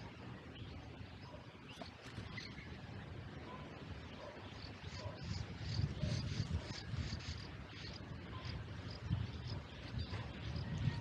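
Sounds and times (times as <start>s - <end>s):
faint high bird chirps: 0.0s - 11.0s
low outdoor rumble: 0.0s - 11.0s.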